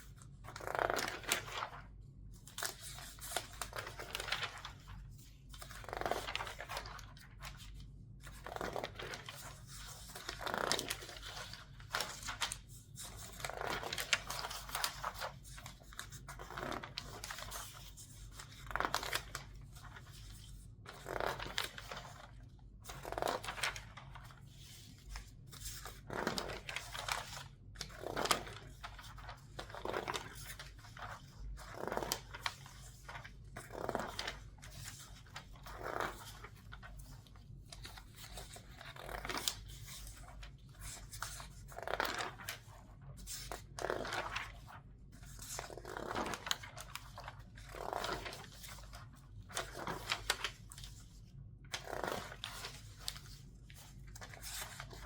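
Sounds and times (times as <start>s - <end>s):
newspaper pages rustling: 0.0s - 55.0s.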